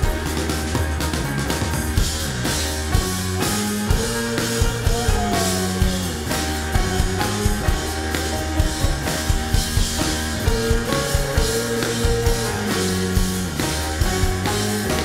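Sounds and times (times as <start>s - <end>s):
drum kit: 0.0s - 15.0s
electric bass: 0.0s - 15.0s
keyboards: 0.0s - 15.0s.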